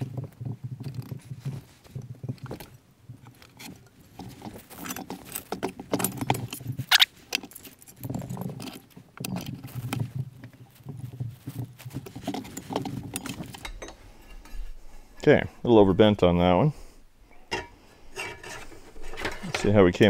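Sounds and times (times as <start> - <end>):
metal clatter and knocks: 0.0 - 15.2, 17.3 - 20.0.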